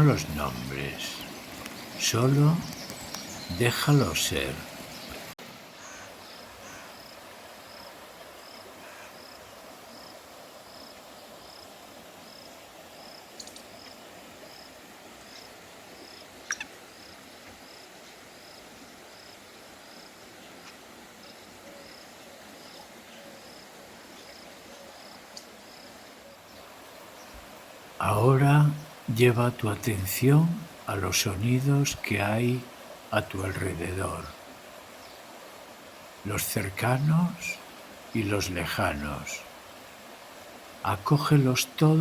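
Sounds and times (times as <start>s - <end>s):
faint river rushing: 0.0s - 42.0s.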